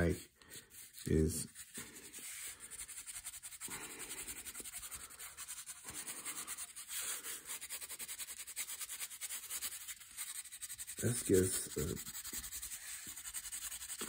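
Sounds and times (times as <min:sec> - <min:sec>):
pencil scratching on card: 0:00.7 - 0:14.0.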